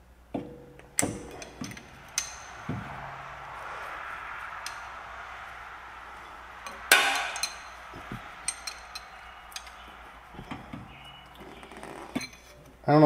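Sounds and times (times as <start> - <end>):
metallic clank: 0.4 - 12.8.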